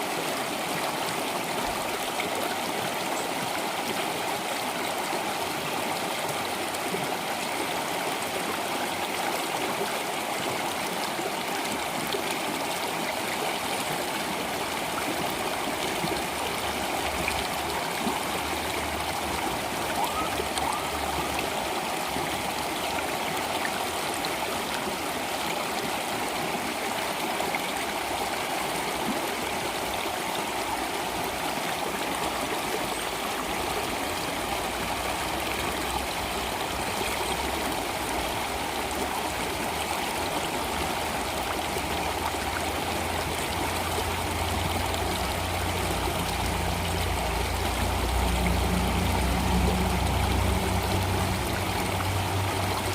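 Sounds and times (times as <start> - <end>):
flowing water: 0.0 - 52.9.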